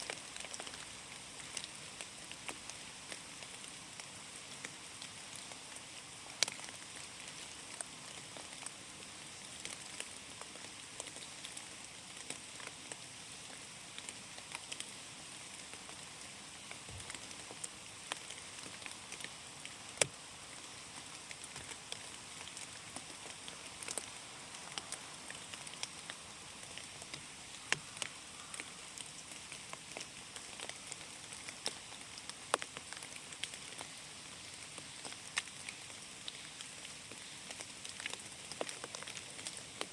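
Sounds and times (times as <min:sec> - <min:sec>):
rain hissing in forest: 0:00.0 - 0:39.9
raindrops ticking on leaves: 0:00.0 - 0:39.9.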